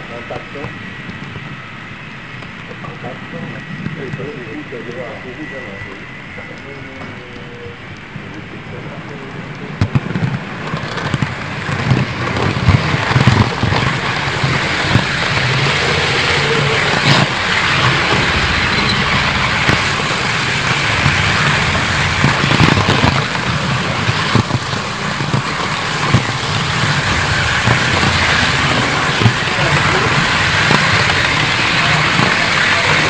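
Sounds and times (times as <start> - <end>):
model trains rolling and humming: 0.0 - 33.0.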